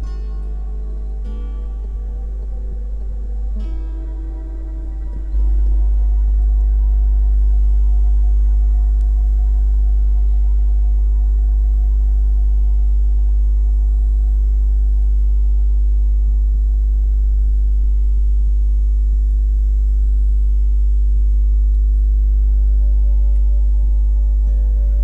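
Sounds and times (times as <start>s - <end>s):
faint sustained music tones: 0.0s - 25.0s
loud low hum: 0.0s - 25.0s.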